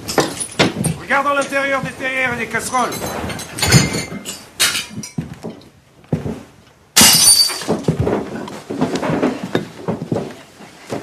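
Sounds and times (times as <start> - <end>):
crockery crashing and clattering: 0.0 - 5.6, 7.0 - 10.2.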